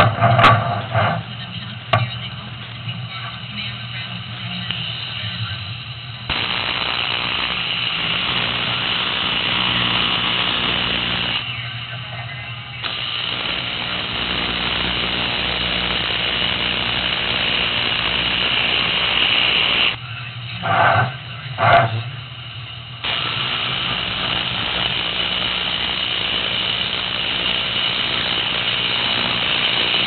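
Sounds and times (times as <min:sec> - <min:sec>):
welding machine low hum: 0:00.0 - 0:30.0
welding arc buzzing: 0:04.2 - 0:11.9, 0:12.8 - 0:20.0, 0:20.6 - 0:30.0.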